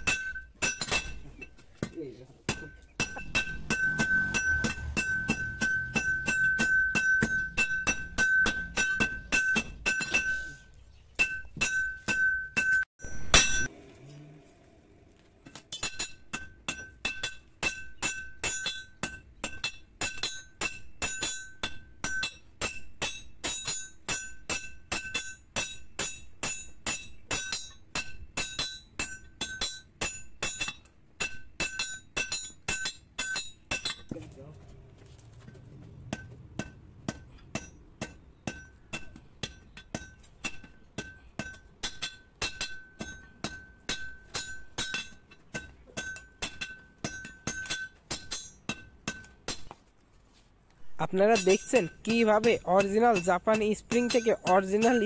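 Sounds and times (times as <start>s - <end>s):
hammer striking hot steel on anvil: 0.0s - 10.5s, 11.2s - 13.7s, 15.4s - 34.1s, 36.1s - 49.8s, 51.2s - 55.0s.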